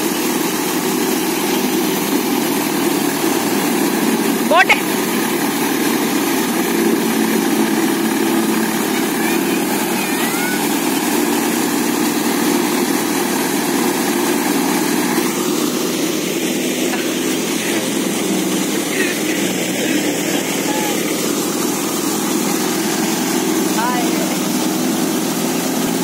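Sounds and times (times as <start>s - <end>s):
wheat thresher running: 0.0s - 26.0s.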